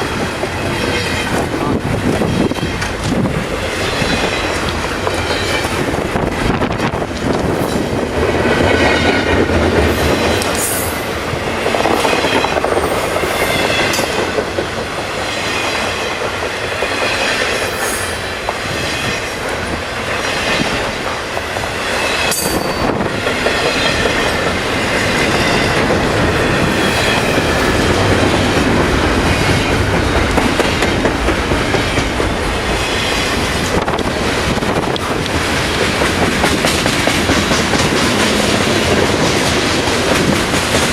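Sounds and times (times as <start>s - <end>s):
freight train wheels clacking: 0.0s - 40.9s
wind buffeting microphone: 0.0s - 40.9s.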